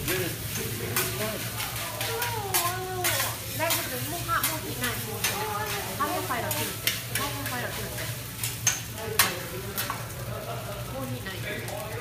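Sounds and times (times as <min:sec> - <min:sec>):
rice sizzling: 0:00.0 - 0:12.0
metal spatulas clacking on griddle: 0:00.1 - 0:10.1.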